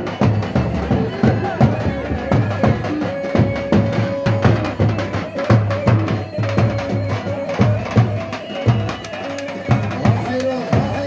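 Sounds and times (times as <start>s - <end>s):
melody instrument holding long notes: 0.0s - 11.0s.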